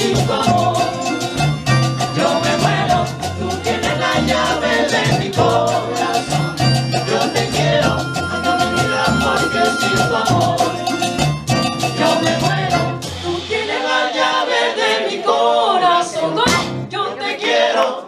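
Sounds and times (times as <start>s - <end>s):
voices singing together: 0.0s - 11.2s, 11.8s - 18.0s
live band with guitars: 0.0s - 14.0s, 16.2s - 17.0s.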